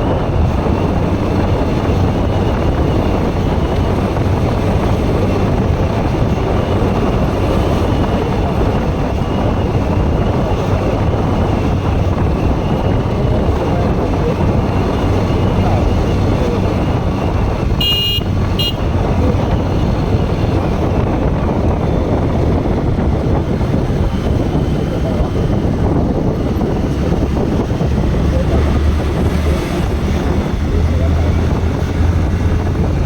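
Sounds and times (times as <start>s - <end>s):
motorcycle engine running: 0.0s - 33.0s
wind rush on microphone: 0.0s - 33.0s.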